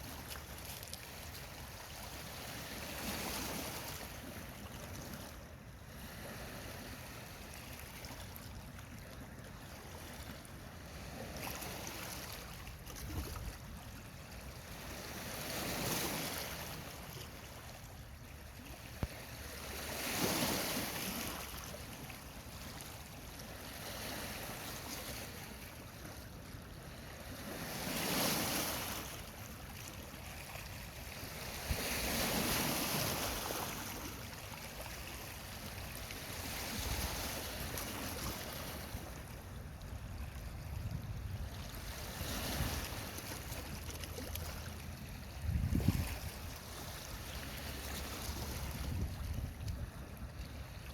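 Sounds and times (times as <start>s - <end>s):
water splashing in waves: 0.0s - 5.4s, 6.0s - 50.9s.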